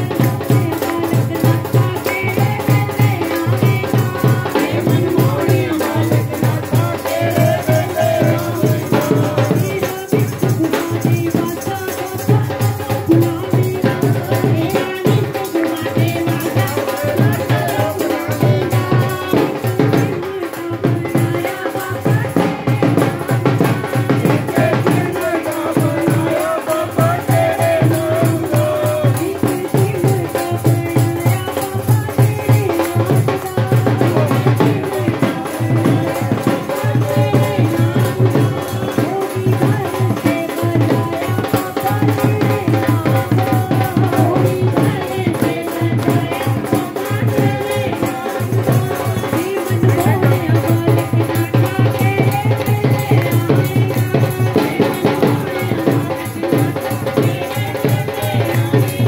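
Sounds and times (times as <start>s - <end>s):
jingling hand percussion: 0.0s - 59.0s
steady drum beat: 0.0s - 59.0s
women singing devotional song: 0.0s - 59.0s.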